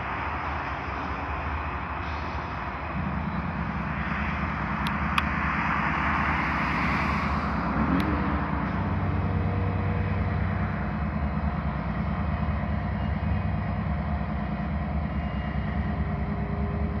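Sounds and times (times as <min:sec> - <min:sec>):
distant diesel locomotive rumble: 0:00.0 - 0:17.0.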